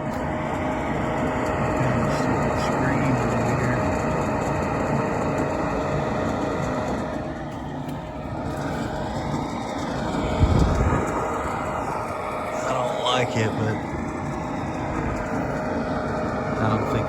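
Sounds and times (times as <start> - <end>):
furnace fan motor humming: 0.0 - 17.0.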